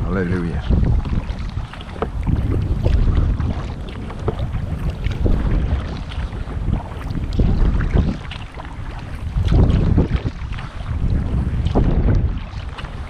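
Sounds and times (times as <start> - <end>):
paddle splashing in water: 0.0 - 13.0
wind rumble on microphone: 0.0 - 13.0.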